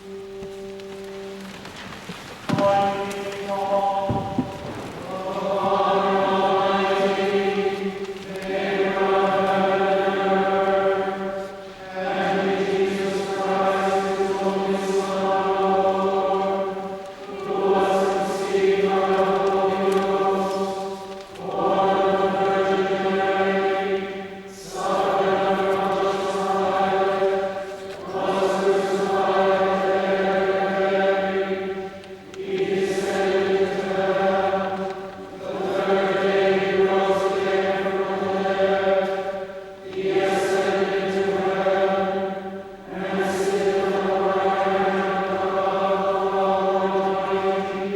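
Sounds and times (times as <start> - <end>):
choir chanting: 0.0 - 1.8, 2.5 - 47.9.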